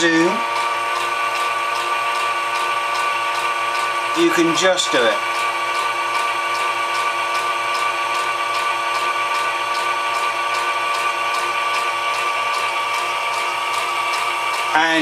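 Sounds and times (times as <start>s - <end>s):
film projector motor whine: 0.0s - 15.0s.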